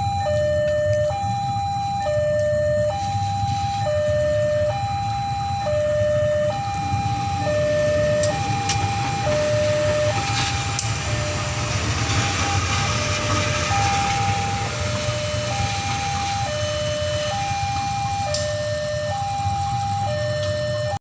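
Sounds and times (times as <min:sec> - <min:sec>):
steady low rumble: 0:00.0 - 0:21.0
two-tone electronic alarm chime: 0:00.0 - 0:21.0.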